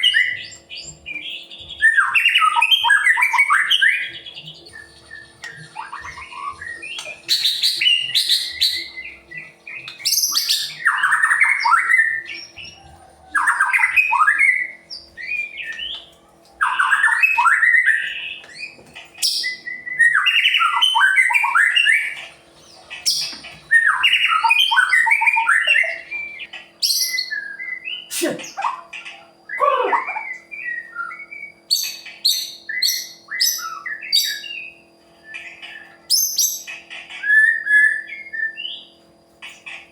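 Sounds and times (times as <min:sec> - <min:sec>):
bird singing varied phrases: 0:00.0 - 0:22.2, 0:23.0 - 0:39.8.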